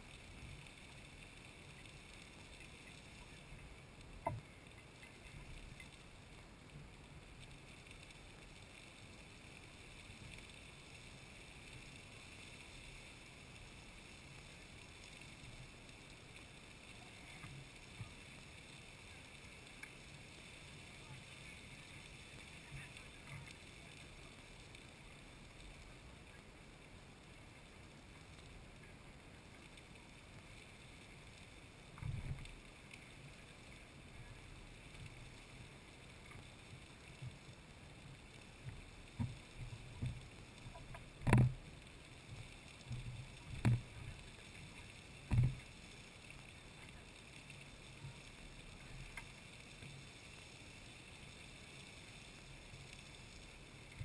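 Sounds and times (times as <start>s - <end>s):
geyser spraying water and steam: 0.0s - 54.0s.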